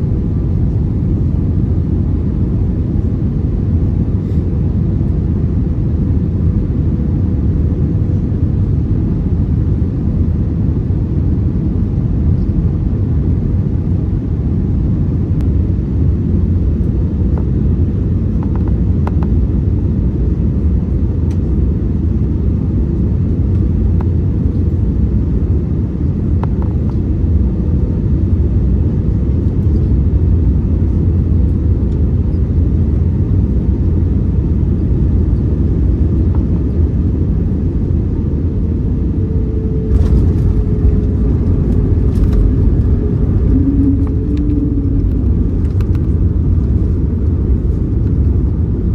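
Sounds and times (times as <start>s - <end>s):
airliner cabin rumble: 0.0s - 48.9s
faint steady hum: 0.0s - 48.9s.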